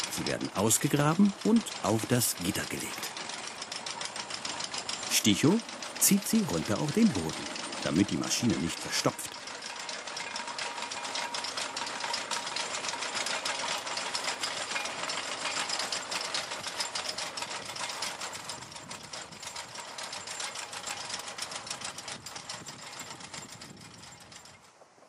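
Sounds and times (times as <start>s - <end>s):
potato digger chain rattling: 0.0s - 24.8s
tractor engine running: 0.0s - 25.0s.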